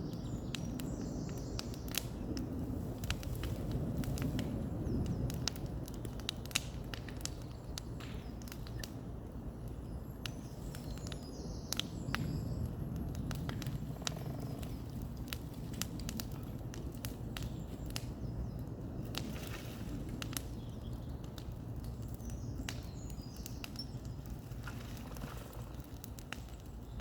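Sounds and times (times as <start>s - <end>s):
bonfire crackling: 0.0s - 27.0s.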